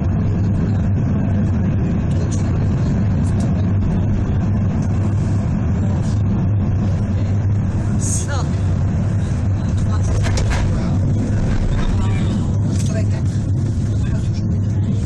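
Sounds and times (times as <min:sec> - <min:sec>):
funicular car rumbling on track: 0:00.0 - 0:15.0.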